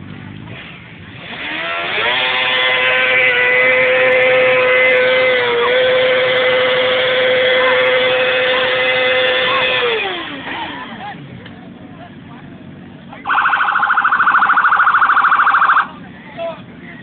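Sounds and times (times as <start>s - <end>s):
vehicle engine revving high: 0.0s - 11.3s, 13.2s - 16.1s.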